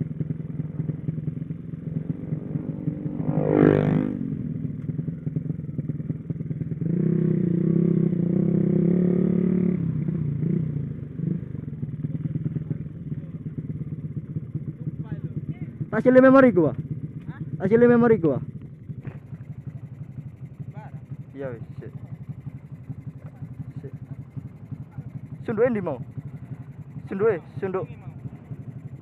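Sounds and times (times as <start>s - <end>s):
small motorcycle engines revving: 0.0s - 29.0s.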